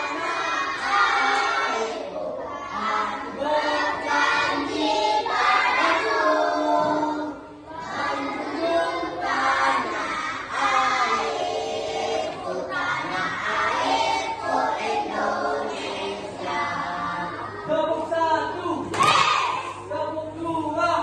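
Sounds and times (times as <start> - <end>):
children singing in unison: 0.0 - 18.1.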